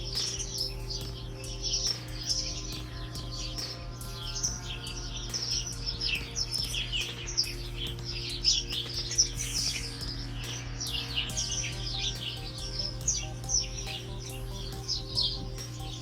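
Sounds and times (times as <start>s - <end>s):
soft held musical tones: 0.0s - 16.0s
songbirds chirping: 0.0s - 16.0s.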